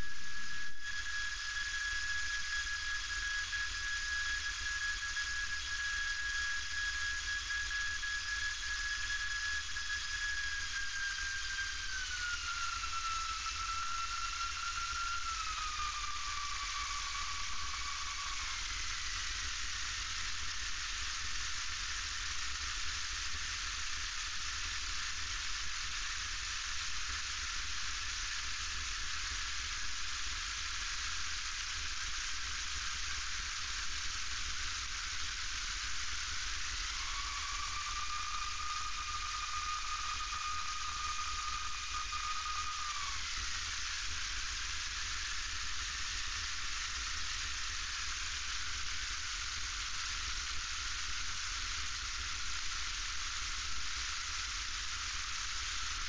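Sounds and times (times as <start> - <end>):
thin whine: 0.0 - 56.0.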